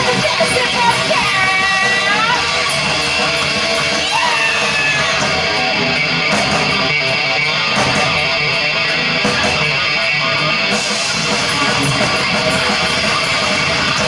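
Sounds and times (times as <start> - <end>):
distorted electric guitar: 0.0 - 14.0
heavy metal band playing: 0.0 - 14.0.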